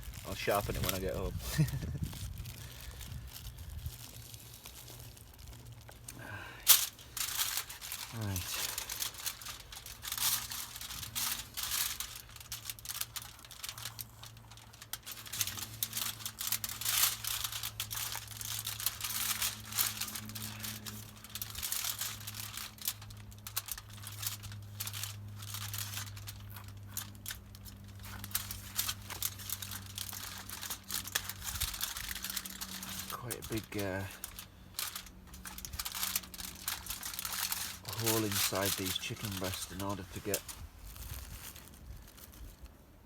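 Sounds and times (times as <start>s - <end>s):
low steady hum: 0.0s - 43.0s
packaging crinkling and rustling: 0.0s - 43.0s.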